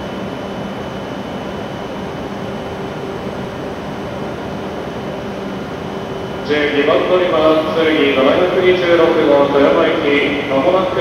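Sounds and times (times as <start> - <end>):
train air-conditioning hum and hiss: 0.0 - 11.0.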